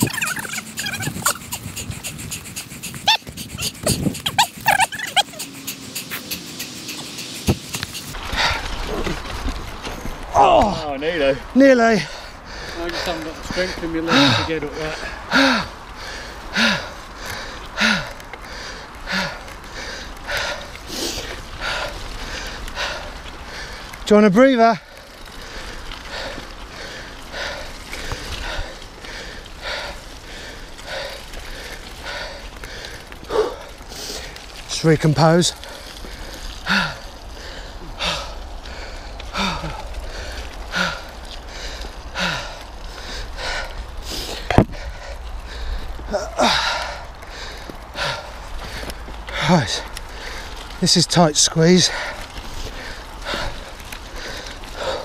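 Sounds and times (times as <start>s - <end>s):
man panting heavily: 0.0s - 9.4s, 10.8s - 55.0s
person breathing hard: 0.0s - 9.4s, 11.9s - 24.1s, 24.8s - 55.0s.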